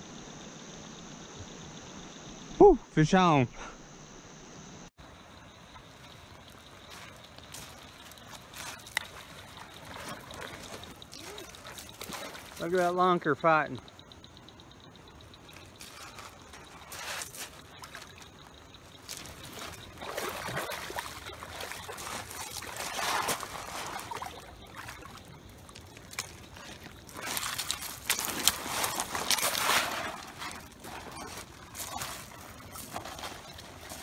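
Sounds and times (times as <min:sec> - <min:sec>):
fish splashing in shallow water: 0:05.0 - 0:34.0.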